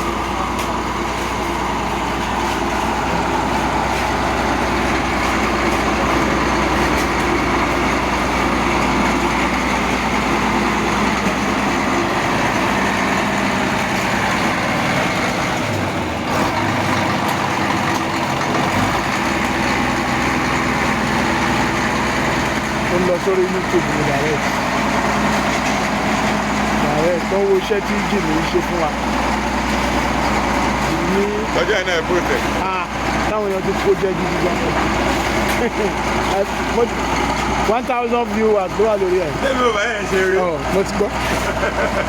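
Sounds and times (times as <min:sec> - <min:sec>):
heavy vehicle engine running: 0:00.0 - 0:42.0.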